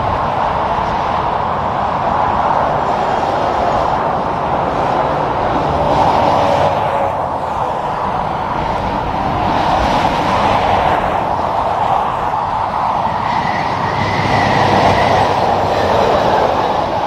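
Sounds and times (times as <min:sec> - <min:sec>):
highway traffic rushing: 0:00.0 - 0:17.0
trucks passing: 0:00.0 - 0:17.0.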